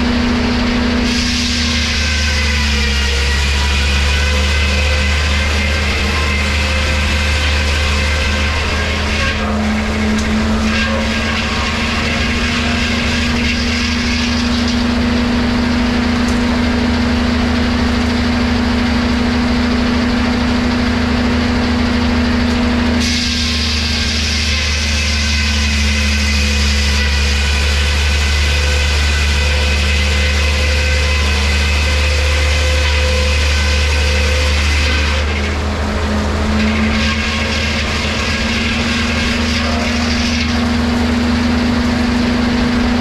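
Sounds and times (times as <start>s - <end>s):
sawmill machinery running: 0.0s - 43.0s.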